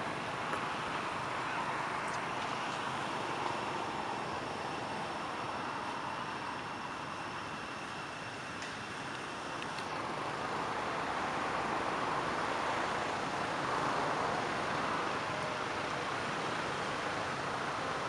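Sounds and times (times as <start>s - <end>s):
steady rushing outdoor noise: 0.0s - 18.0s.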